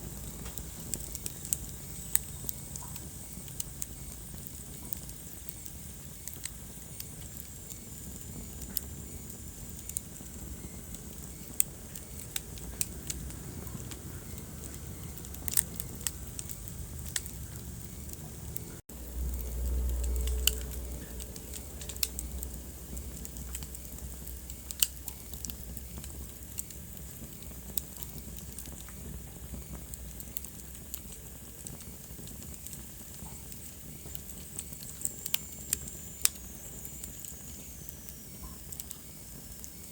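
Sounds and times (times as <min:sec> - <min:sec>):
fire crackles and pops: 0:00.0 - 0:39.9
fire low rumble: 0:00.0 - 0:39.9.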